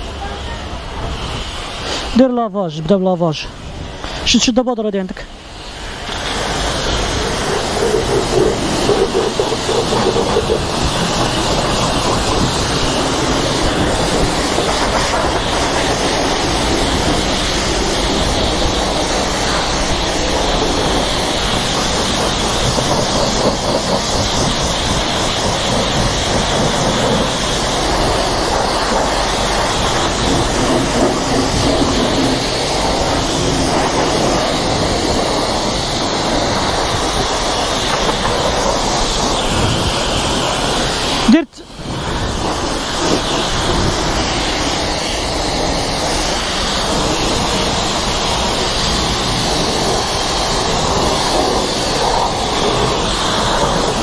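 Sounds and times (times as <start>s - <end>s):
pressure washer spraying water: 0.0s - 2.4s, 5.2s - 54.0s.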